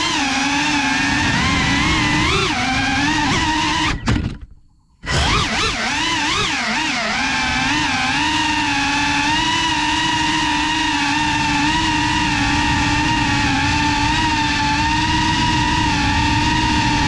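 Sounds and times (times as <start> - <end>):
quadcopter motors whining: 0.0 - 4.4, 5.0 - 17.0.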